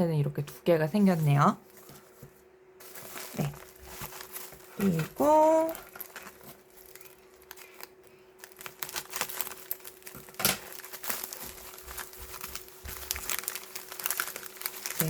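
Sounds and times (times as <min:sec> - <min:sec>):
packaging rustling and crinkling: 0:01.0 - 0:15.0.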